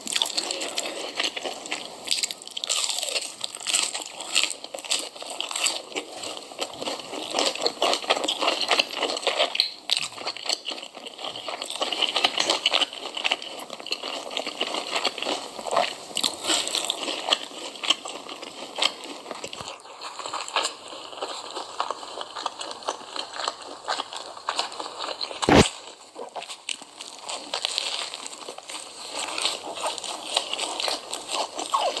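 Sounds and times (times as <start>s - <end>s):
crisp food crunching: 0.0s - 32.0s.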